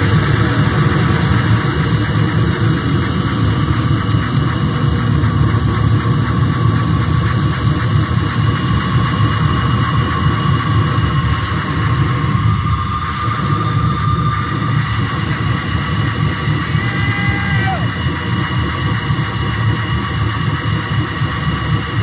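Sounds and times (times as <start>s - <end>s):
dense electronic music: 0.0s - 22.0s.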